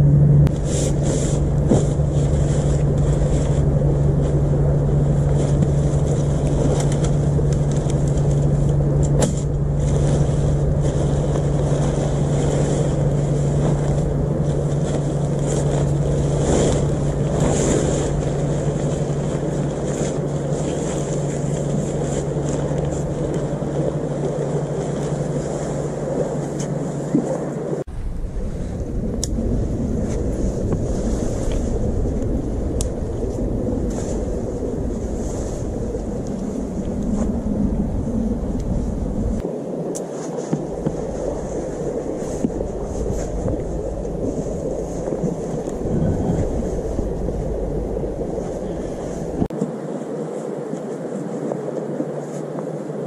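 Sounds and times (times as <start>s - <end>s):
low engine drone: 0.0s - 52.2s
nylon fabric rustling: 0.5s - 27.9s, 29.6s - 49.6s.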